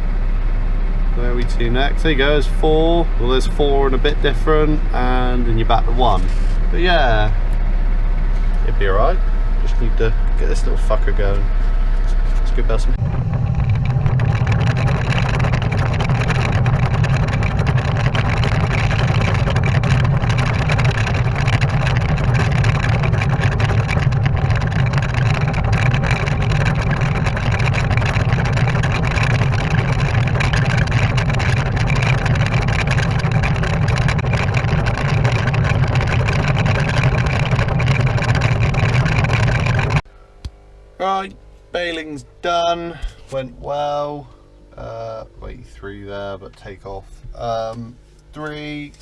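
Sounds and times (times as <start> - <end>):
tractor engine running: 0.0 - 40.1.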